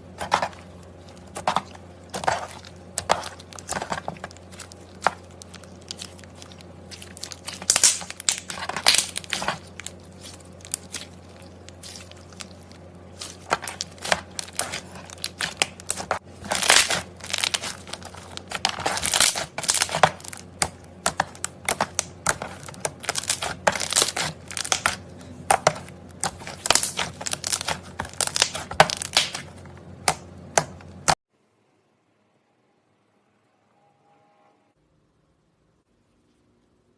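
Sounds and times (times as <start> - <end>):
slime crackling and popping: 0.0 - 31.2.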